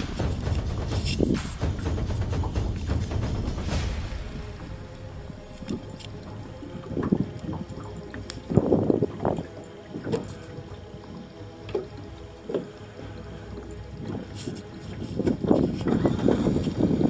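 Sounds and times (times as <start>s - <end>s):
water slapping against boat hull: 0.0s - 13.2s, 13.9s - 17.0s.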